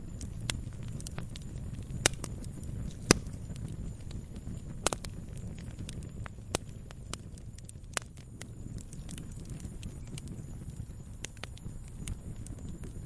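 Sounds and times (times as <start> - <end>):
campfire crackling: 0.0 - 13.0
low rumble of flames: 0.0 - 13.0.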